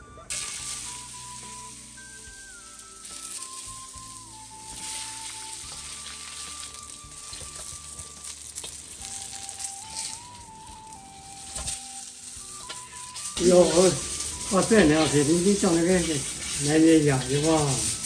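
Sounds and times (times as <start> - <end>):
simple background melody: 0.0 - 18.0
food sizzling in hot oil: 0.3 - 18.0.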